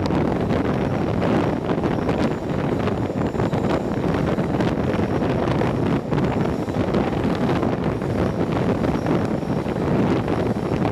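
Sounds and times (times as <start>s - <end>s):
train coaches rumbling on rails: 0.0s - 10.9s
wind buffeting microphone: 0.0s - 10.9s.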